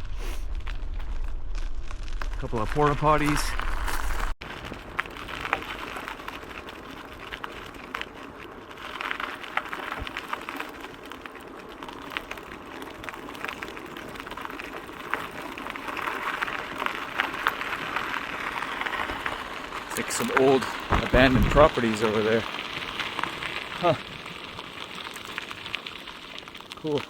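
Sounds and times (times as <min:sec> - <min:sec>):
bicycle tyres on gravel: 0:00.0 - 0:27.0.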